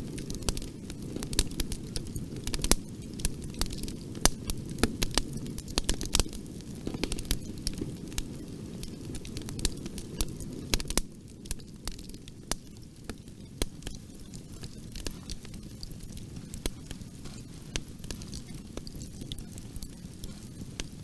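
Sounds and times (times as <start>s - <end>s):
wood fire crackling in fireplace: 0.0s - 21.0s.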